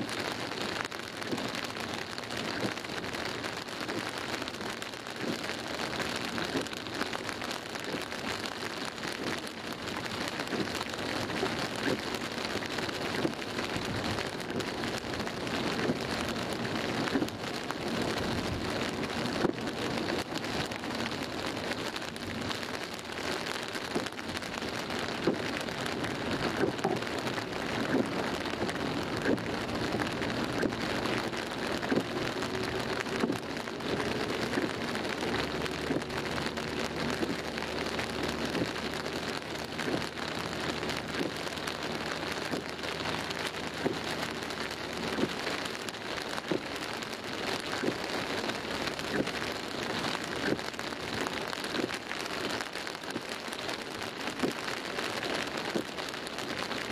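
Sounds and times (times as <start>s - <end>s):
car engine and tyres: 0.0s - 56.9s
heavy rain on car roof: 0.0s - 56.9s.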